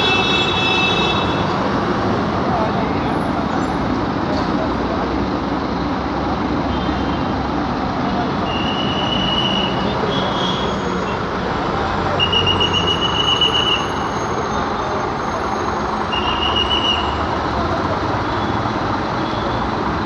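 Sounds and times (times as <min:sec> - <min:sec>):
diesel engine running: 0:00.0 - 0:20.0
traffic noise: 0:00.0 - 0:20.0.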